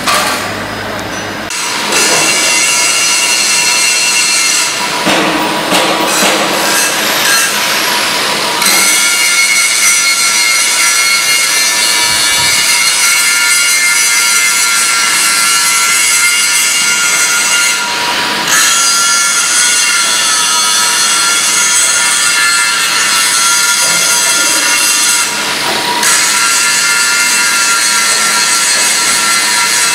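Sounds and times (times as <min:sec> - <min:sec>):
band saw cutting metal: 0:01.4 - 0:29.9.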